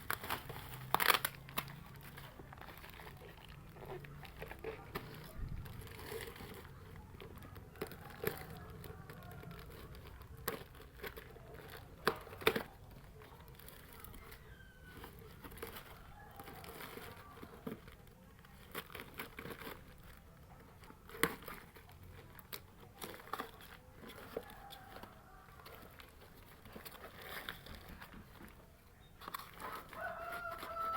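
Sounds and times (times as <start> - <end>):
hands and tools clicking: 0.0 - 30.9.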